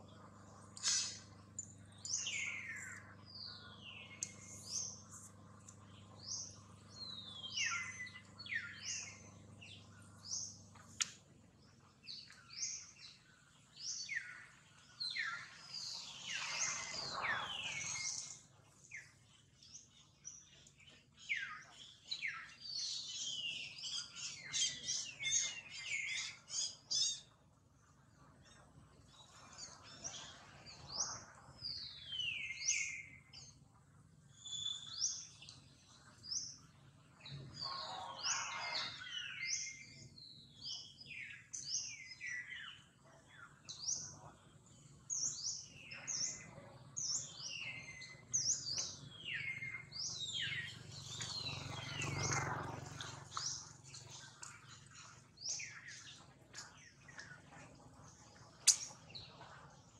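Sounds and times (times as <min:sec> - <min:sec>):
birds chirping: 0:00.0 - 0:33.7, 0:34.3 - 0:59.9.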